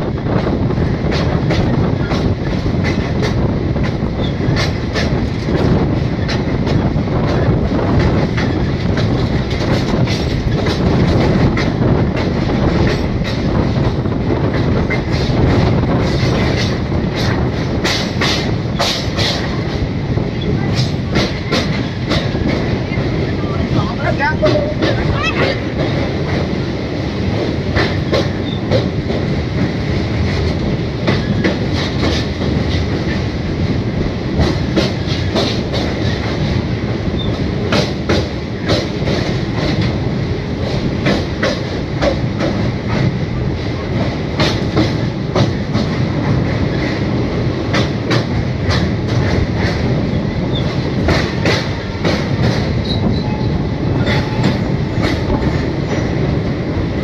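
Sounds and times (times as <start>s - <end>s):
train low rumble: 0.0s - 57.0s
wheels clacking on rails: 0.0s - 57.0s.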